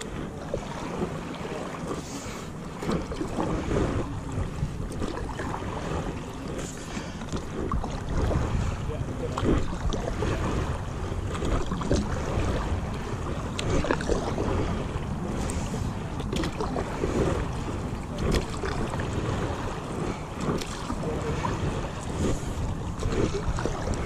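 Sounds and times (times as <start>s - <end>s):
paddle splashing in water: 0.0s - 24.0s
wind buffeting microphone: 0.0s - 24.0s.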